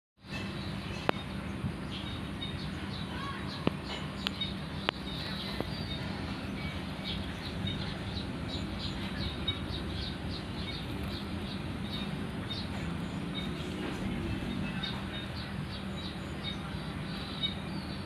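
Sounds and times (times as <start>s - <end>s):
birds chirping: 0.2s - 18.0s
steady low hum: 0.2s - 18.0s.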